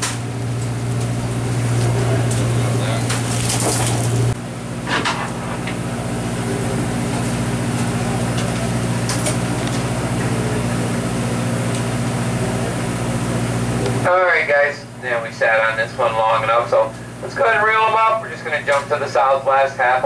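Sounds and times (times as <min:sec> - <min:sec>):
boat machinery hum: 0:00.0 - 0:20.0.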